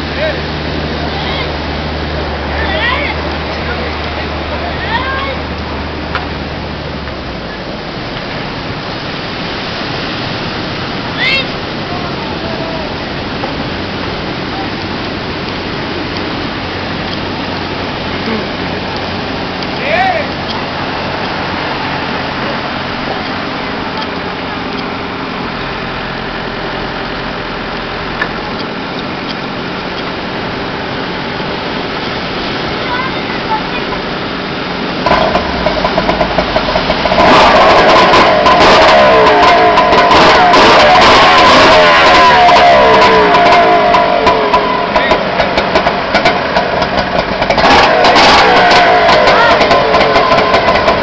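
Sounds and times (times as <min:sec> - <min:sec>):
engine idling: 0:00.0 - 0:09.2, 0:10.4 - 0:51.0
constant rushing noise: 0:00.0 - 0:51.0
steady noise: 0:00.0 - 0:51.0.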